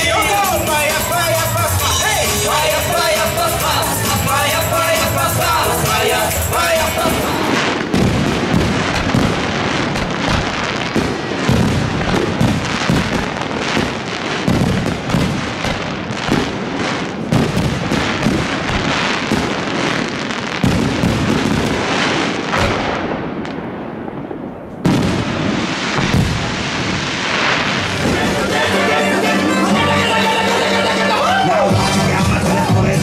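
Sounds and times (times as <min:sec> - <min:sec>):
fireworks bursting with crackling: 0:00.0 - 0:33.0.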